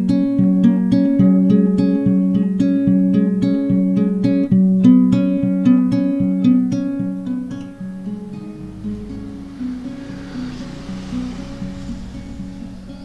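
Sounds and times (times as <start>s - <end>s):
acoustic guitar plucked notes: 0.0s - 13.0s
soft steady hiss: 0.0s - 13.0s.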